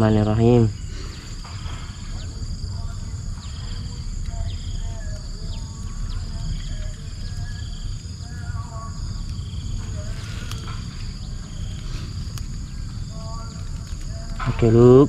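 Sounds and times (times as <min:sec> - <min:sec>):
insects trilling: 0:00.0 - 0:15.0
low rumble: 0:00.0 - 0:15.0
animal calls: 0:00.9 - 0:15.0.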